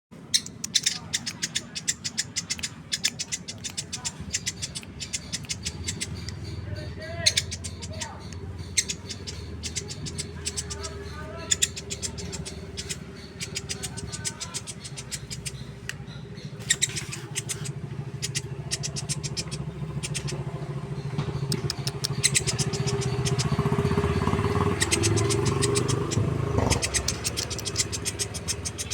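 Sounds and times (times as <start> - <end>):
engine humming: 0.2 - 28.9
woodpecker clicking calls: 0.2 - 28.9.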